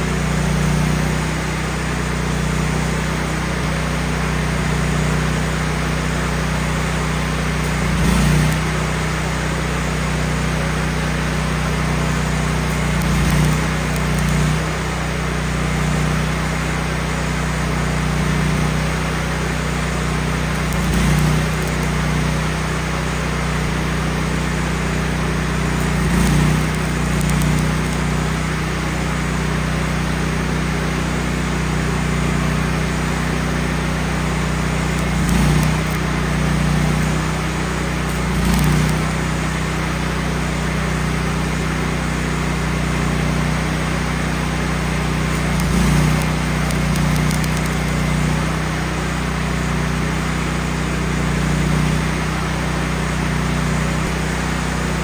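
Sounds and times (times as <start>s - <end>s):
welder gas engine running: 0.0s - 55.0s.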